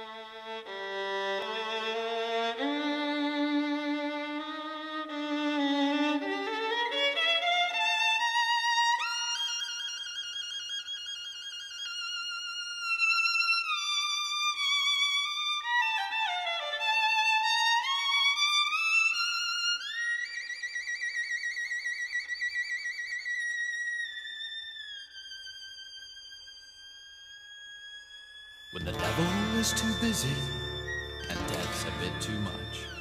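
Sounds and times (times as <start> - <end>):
violin playing slow melody: 0.0 - 33.0.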